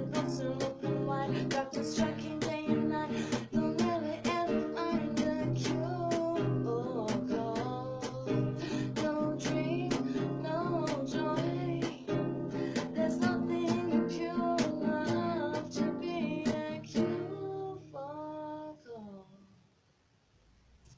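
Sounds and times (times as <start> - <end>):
acoustic guitar strumming chords: 0.0 - 17.7.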